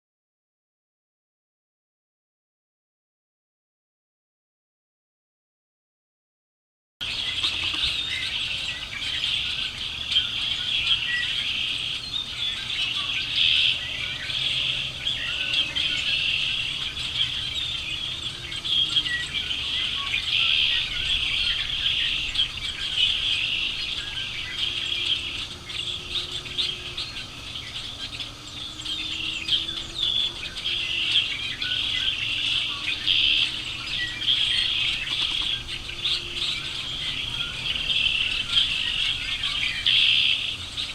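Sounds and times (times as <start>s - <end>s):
chorus of birds chirping: 7.0s - 40.9s.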